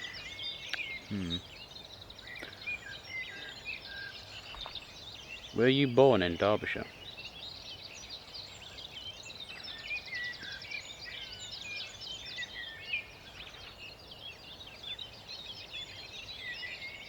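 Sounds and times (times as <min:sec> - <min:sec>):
songbirds singing dawn chorus: 0:00.0 - 0:17.0.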